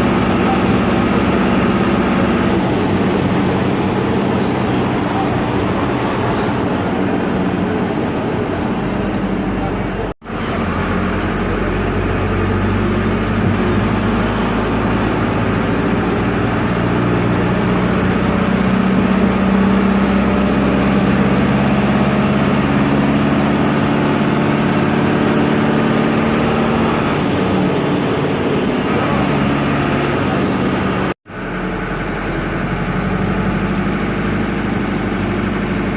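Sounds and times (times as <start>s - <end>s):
noisy diesel engine running: 0.0s - 35.9s.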